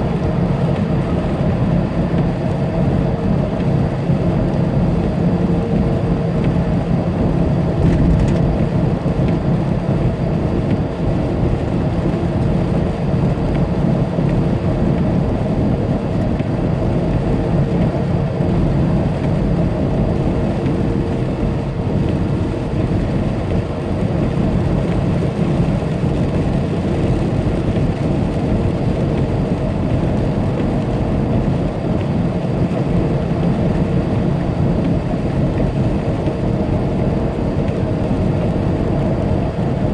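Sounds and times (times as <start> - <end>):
tyre and road noise: 0.1 - 39.9.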